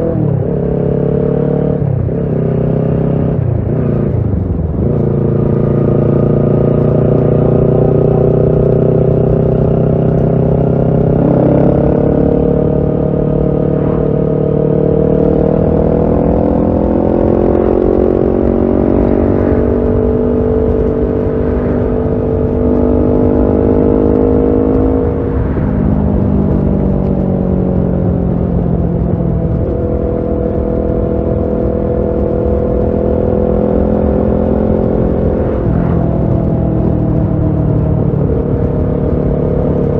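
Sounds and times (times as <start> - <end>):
low rush of wind: 0.0 - 39.9
motorcycle engine revving: 0.0 - 39.9.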